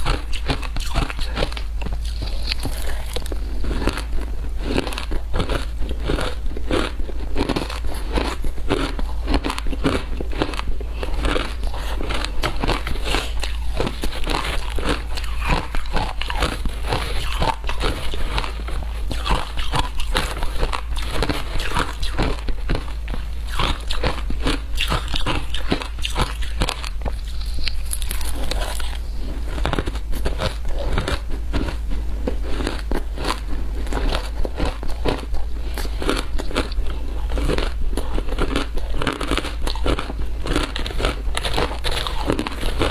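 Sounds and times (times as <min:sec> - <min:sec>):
ice being crunched and chewed: 0:00.0 - 0:42.9
steady low hum: 0:00.0 - 0:42.9.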